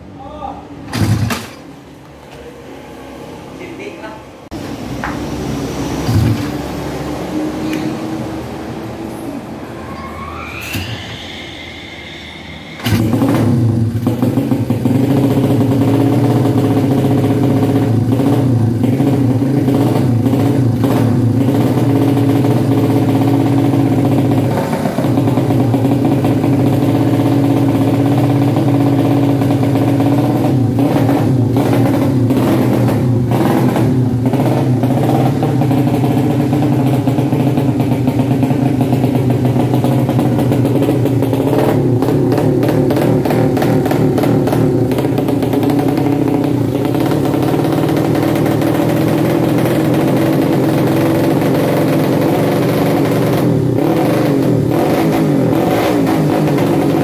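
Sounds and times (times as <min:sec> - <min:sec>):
motorcycle engine revving: 0:00.9 - 0:03.6, 0:04.5 - 0:09.5, 0:12.8 - 0:57.0.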